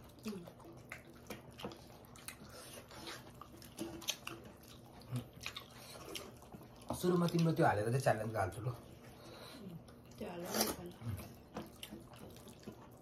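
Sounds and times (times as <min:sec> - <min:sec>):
chewing and lip-smacking: 0:00.0 - 0:13.0.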